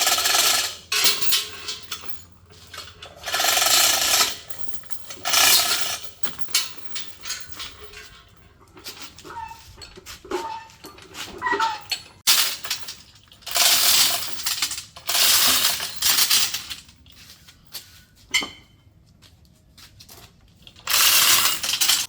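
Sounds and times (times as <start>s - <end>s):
metal tools clinking: 0.0s - 18.8s, 20.6s - 22.0s.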